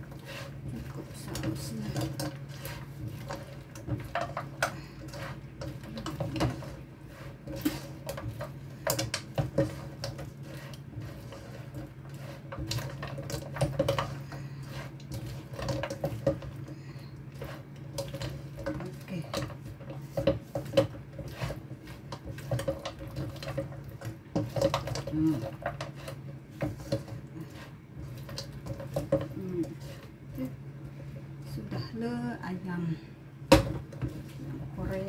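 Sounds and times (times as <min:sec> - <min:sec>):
wooden spatula scraping a wok: 0:00.0 - 0:32.1, 0:33.8 - 0:35.0
steady low hum: 0:00.0 - 0:35.0.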